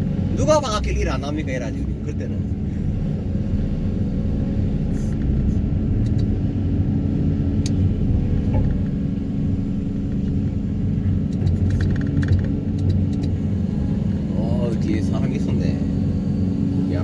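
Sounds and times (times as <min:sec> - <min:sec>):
low machine rumble and hum: 0:00.0 - 0:17.0.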